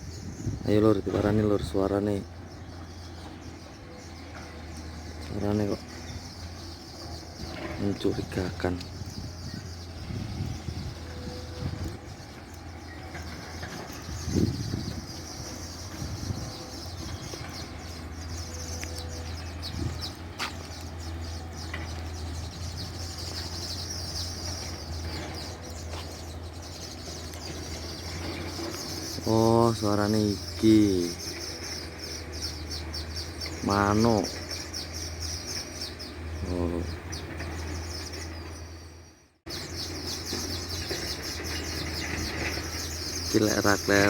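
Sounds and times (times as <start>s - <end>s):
weaver birds chattering: 0.0s - 44.0s.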